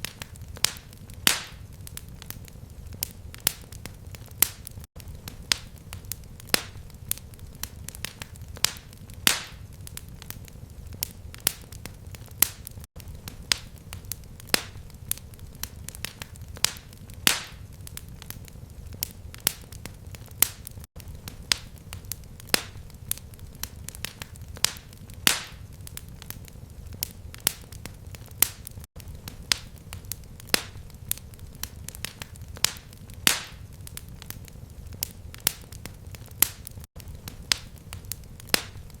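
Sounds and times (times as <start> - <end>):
fireplace fire crackling: 0.0 - 39.0.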